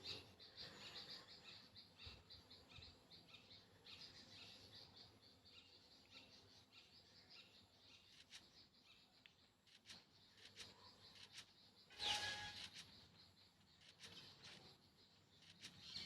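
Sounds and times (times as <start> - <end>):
rapid high-pitched chirping: 0.0 - 16.0.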